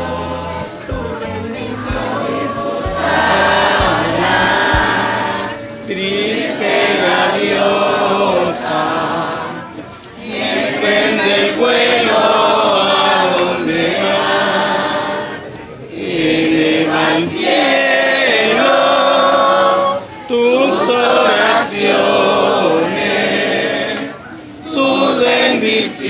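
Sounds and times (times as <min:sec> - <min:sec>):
group singing a hymn: 0:00.0 - 0:26.0.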